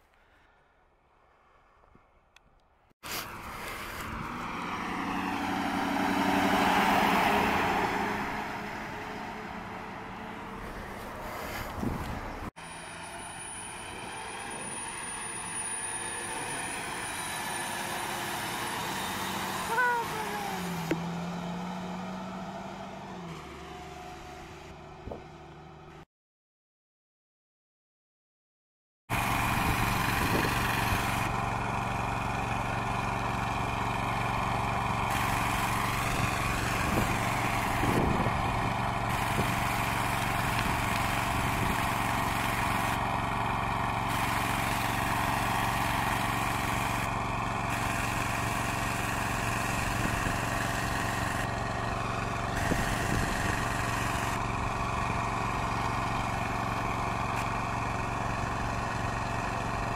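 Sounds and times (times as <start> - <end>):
engine droning steadily: 3.1 - 26.0, 29.1 - 59.9.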